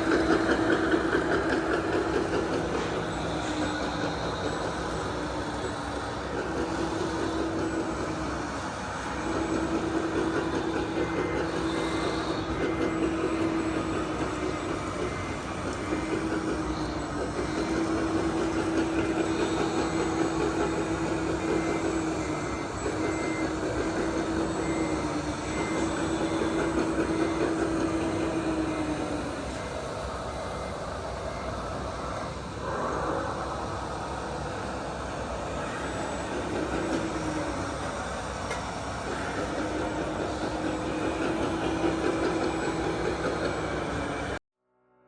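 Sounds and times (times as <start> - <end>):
electric motor whine: 0.0 - 44.4
reversing beeper: 0.0 - 44.4.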